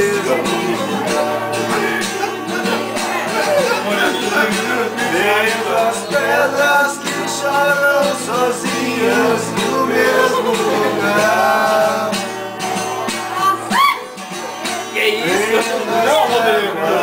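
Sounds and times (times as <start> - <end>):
men singing together: 0.0 - 13.2, 14.2 - 17.0
acoustic guitar: 0.0 - 17.0.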